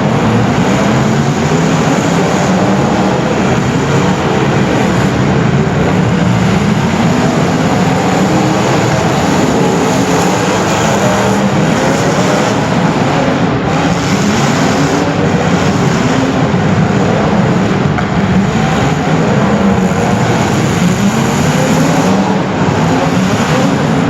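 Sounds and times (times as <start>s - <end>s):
racing engines at high revs: 0.0s - 24.0s.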